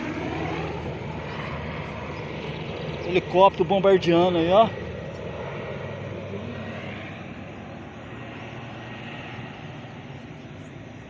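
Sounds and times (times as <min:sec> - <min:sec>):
helicopter engine and rotor hum: 0:00.0 - 0:11.0.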